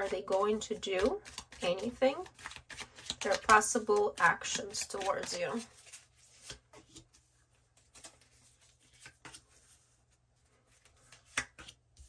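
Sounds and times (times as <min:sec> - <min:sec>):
cards tapping and rustling: 0:00.0 - 0:07.2, 0:07.8 - 0:09.7, 0:10.7 - 0:12.0.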